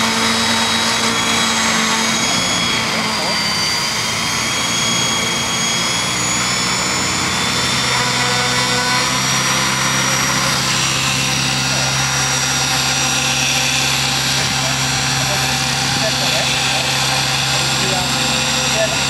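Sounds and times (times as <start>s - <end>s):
electric motor high whine: 0.0s - 19.0s
helicopter rotors whooshing: 0.0s - 19.0s.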